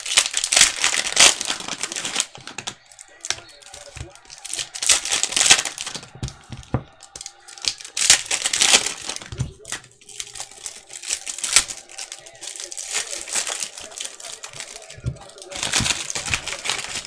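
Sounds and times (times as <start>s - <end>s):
foil wrapper crinkling and tearing: 0.0s - 17.0s
wrapper and cards rustling: 0.0s - 17.0s.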